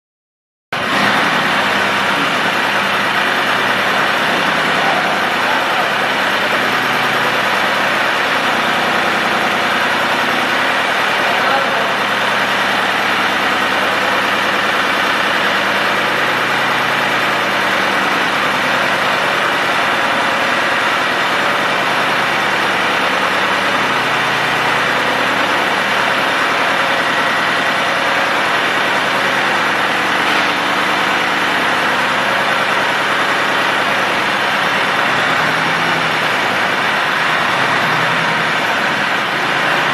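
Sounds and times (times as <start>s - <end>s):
tractor diesel engine running: 0.8s - 39.9s.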